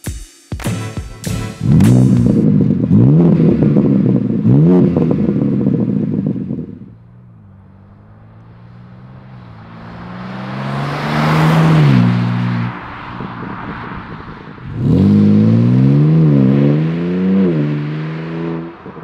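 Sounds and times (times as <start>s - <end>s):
car engine revving: 1.5s - 19.0s
car driving toward listener: 1.6s - 19.0s.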